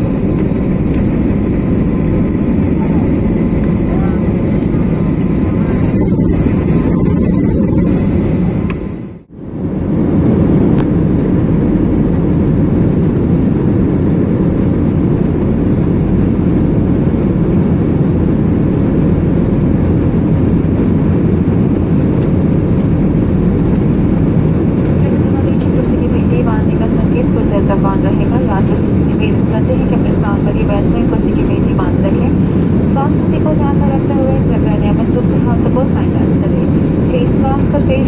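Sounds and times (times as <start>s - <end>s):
jet airliner cabin noise: 0.0s - 38.0s.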